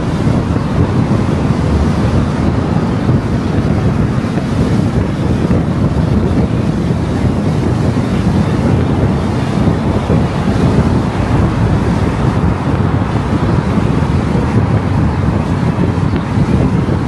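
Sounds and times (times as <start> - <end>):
car tyre and wind noise: 0.0 - 17.0.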